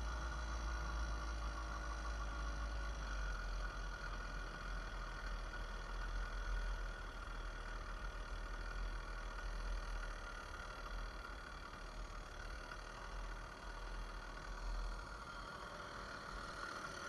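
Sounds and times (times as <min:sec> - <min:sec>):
two-stroke bicycle engine running: 0:00.0 - 0:17.0.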